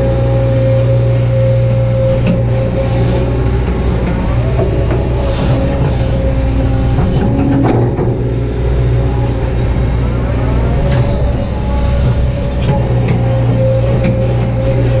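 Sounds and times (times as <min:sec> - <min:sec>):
excavator diesel engine running: 0:00.0 - 0:15.0
hydraulic whine: 0:00.0 - 0:15.0.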